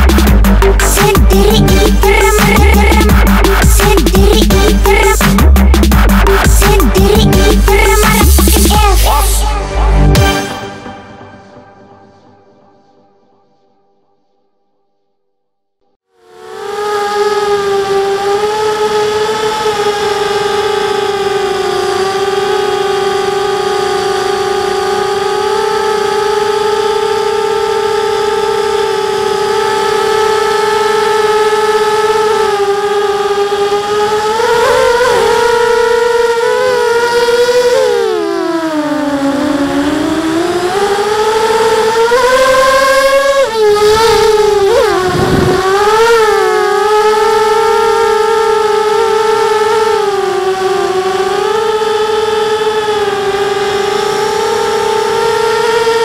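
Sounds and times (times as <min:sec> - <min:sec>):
quadcopter motors whining: 0:00.0 - 0:09.4, 0:16.1 - 0:56.0.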